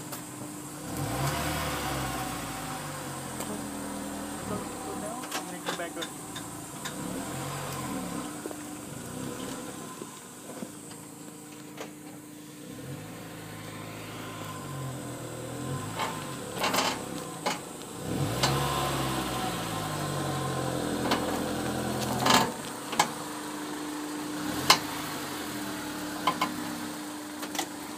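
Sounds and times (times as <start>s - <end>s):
car engine revving: 0.5s - 11.2s, 12.5s - 27.2s.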